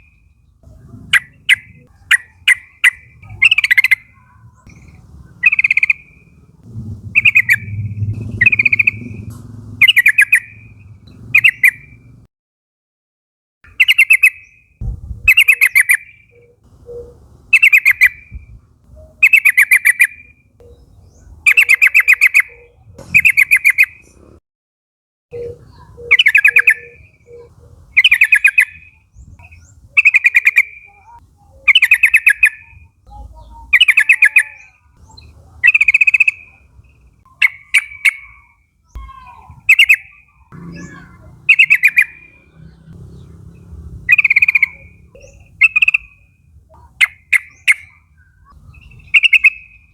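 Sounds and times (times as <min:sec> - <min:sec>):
bulbul chattering calls: 0:00.0 - 0:12.2, 0:13.7 - 0:24.2, 0:25.3 - 0:49.9.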